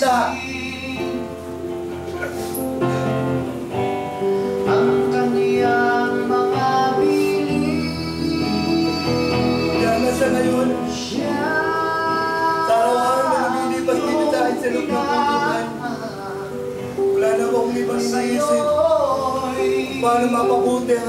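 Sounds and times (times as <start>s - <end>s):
person singing: 0.0s - 3.2s, 4.2s - 21.0s.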